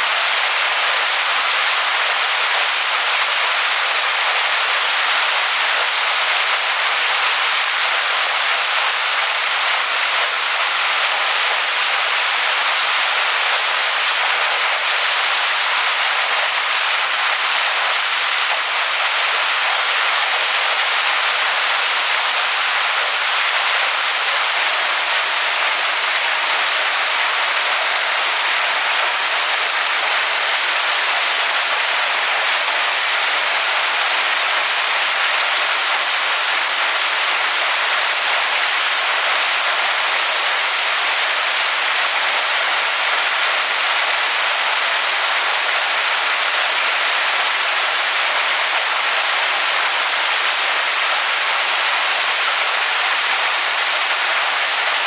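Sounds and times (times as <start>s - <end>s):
waterfall splashing onto rocks: 0.0s - 55.0s.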